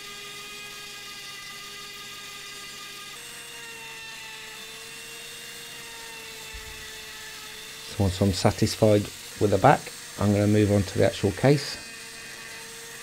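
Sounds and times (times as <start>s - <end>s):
rotary tool whining: 0.0s - 13.0s.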